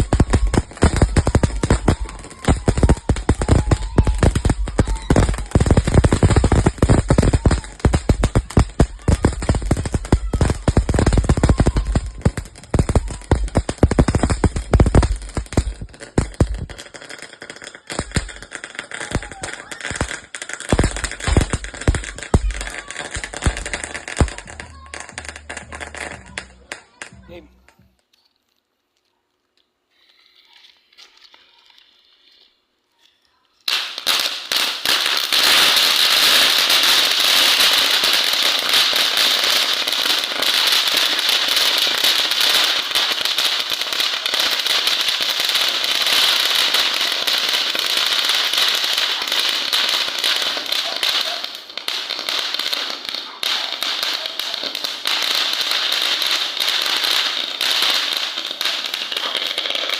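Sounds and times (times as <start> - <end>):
firework fountain crackling hiss: 0.0 - 27.7, 29.9 - 59.9.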